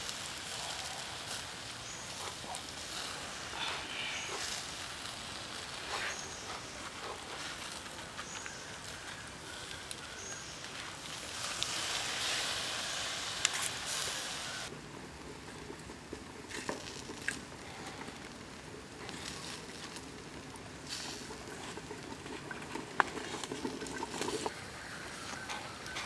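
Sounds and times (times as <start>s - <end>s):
faint sizzle of juices: 0.0s - 26.0s
fire crackling and popping: 0.0s - 26.0s.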